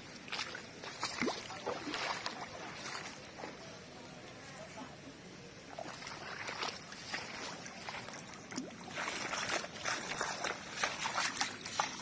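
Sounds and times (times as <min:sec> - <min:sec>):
footsteps splashing through water: 0:00.0 - 0:03.7, 0:05.7 - 0:12.0.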